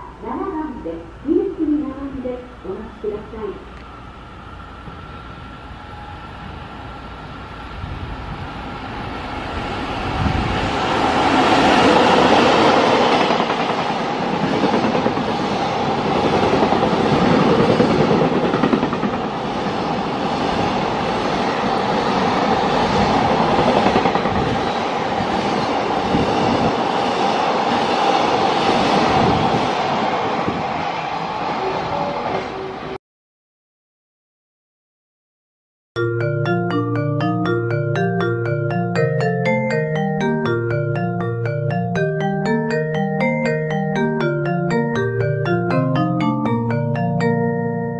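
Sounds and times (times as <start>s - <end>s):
freight train passing: 0.0s - 33.0s, 36.0s - 47.9s.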